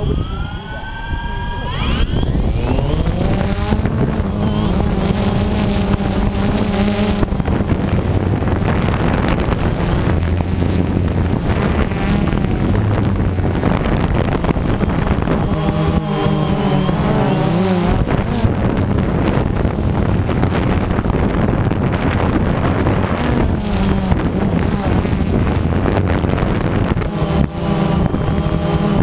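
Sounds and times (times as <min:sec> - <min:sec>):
drone motors and propellers: 0:00.0 - 0:29.0
wind buffeting microphone: 0:00.0 - 0:29.0.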